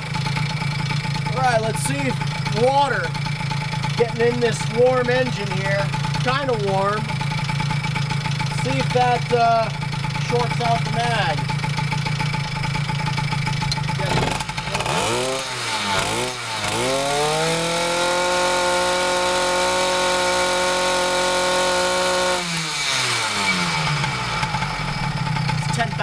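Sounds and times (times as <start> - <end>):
two-stroke engine revving: 0.0 - 26.0.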